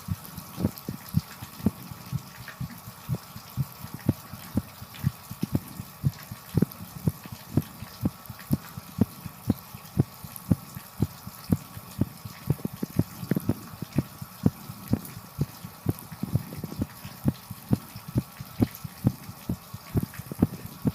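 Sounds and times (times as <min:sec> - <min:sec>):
fast human heartbeat: 0:00.0 - 0:20.9
shower water hissing: 0:00.0 - 0:20.9.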